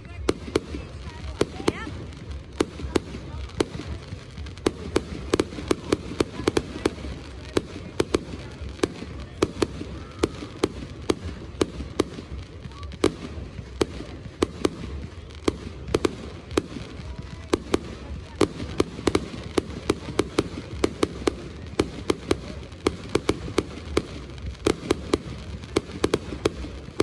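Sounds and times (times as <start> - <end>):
fireworks popping and banging: 0.0 - 27.0.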